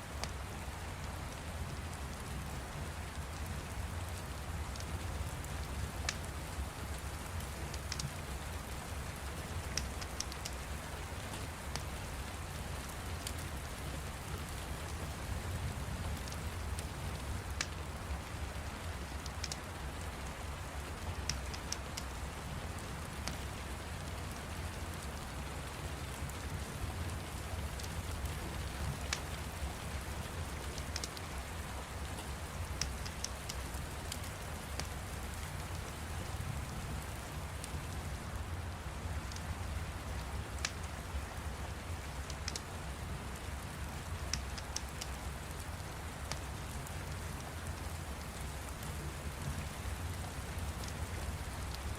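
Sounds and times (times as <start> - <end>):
steady rain patter: 0.0 - 51.9
fire crackling: 4.4 - 49.4.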